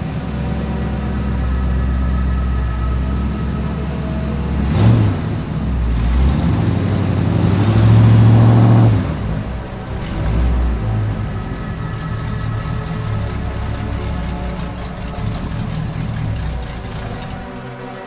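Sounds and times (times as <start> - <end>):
car engine idling and revving: 0.0 - 17.9.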